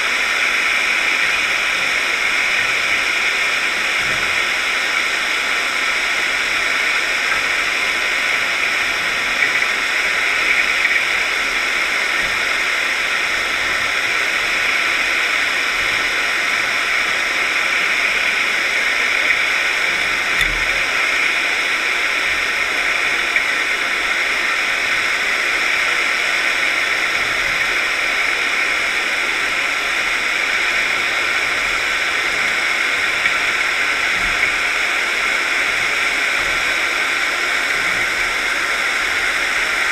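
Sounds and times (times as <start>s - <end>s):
underwater hiss: 0.0s - 39.9s.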